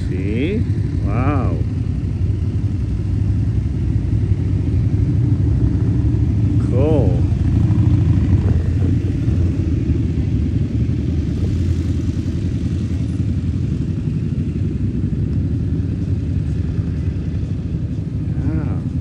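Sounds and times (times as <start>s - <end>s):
low fluttering rumble: 0.0s - 19.0s.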